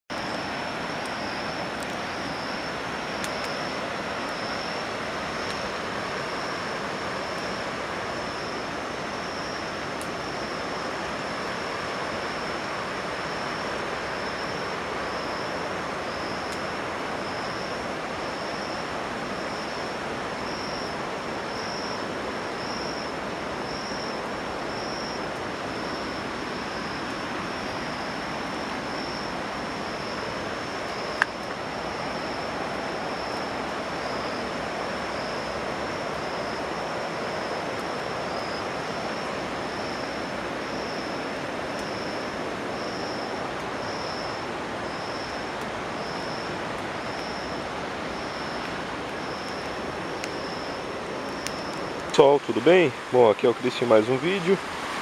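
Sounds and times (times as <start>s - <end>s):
river current rushing: 0.1s - 55.0s
thin high pulsing buzz: 0.1s - 55.0s.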